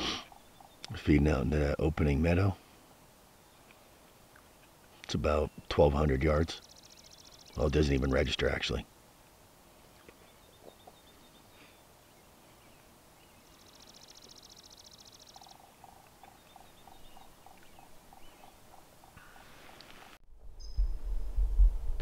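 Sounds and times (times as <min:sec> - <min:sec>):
distant bird calls: 0:00.0 - 0:20.8.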